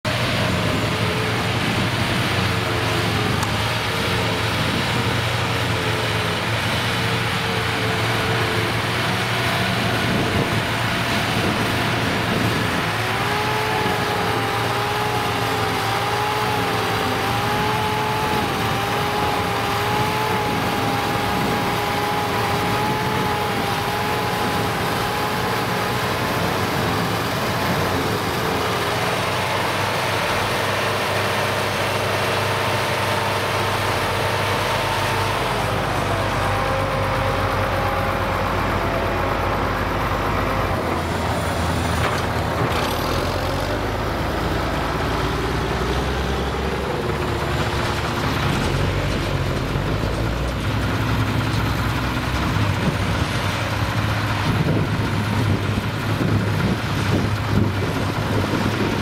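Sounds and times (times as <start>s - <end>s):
tractors and forage harvester drone: 0.0s - 59.0s.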